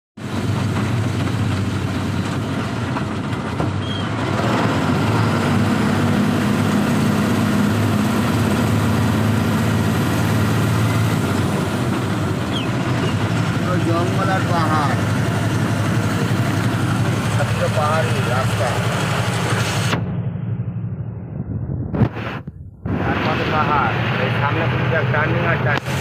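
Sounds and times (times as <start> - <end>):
tyre and road noise: 0.2 - 26.0
vehicle engine hum: 0.2 - 26.0.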